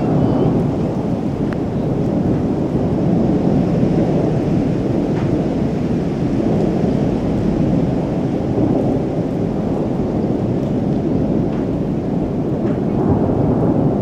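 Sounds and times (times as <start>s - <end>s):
rain falling: 0.0s - 14.0s
rolling thunder: 0.0s - 14.0s.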